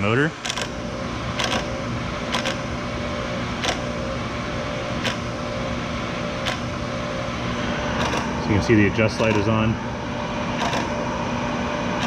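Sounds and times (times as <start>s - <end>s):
brake lathe motor hum: 0.0s - 12.0s.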